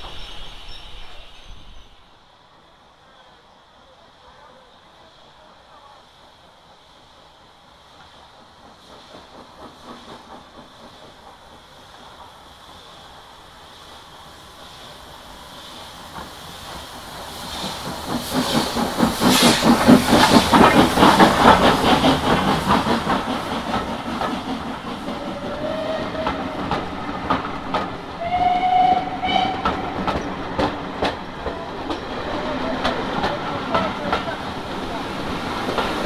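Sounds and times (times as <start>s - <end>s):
steam train passing: 0.0s - 36.0s.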